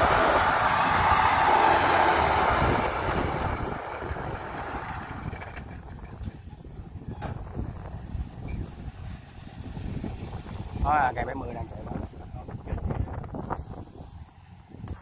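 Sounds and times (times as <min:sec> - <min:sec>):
crawler engine running: 0:00.0 - 0:15.0.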